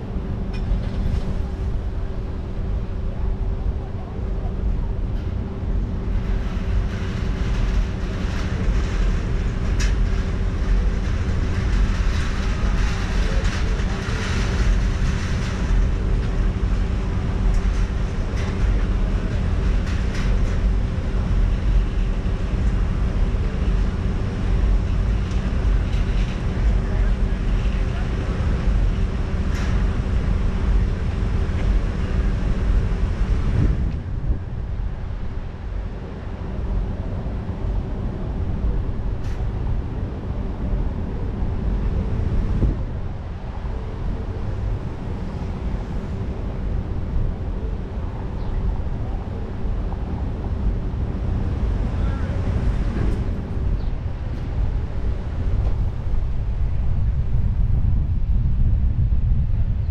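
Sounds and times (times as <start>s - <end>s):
car engine rumble in traffic: 0.0s - 59.9s
steady hum: 0.0s - 59.9s
wind buffeting microphone: 0.0s - 59.9s.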